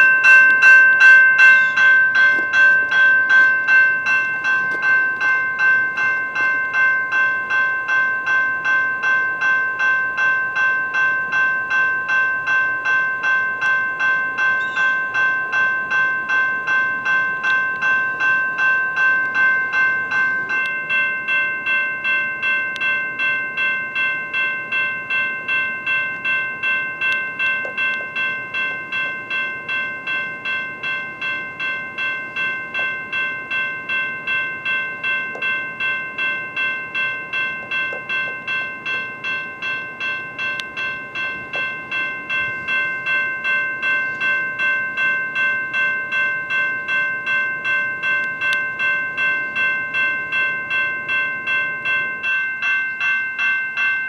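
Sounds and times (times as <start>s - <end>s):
railroad crossing bell ringing: 0.0s - 54.0s.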